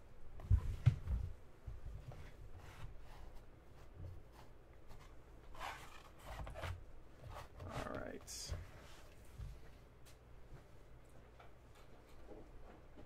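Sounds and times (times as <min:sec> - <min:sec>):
faint rustling and handling: 0:00.4 - 0:13.0.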